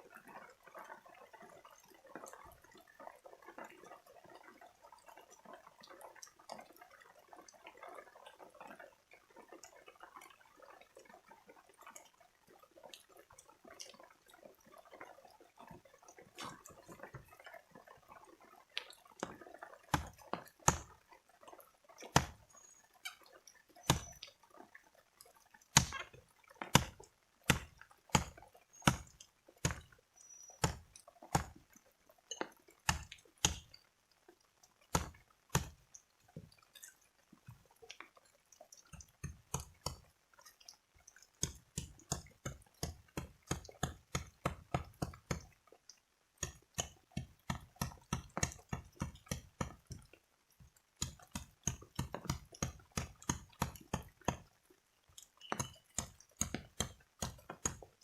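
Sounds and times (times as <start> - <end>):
water dripping: 0.0 - 58.0.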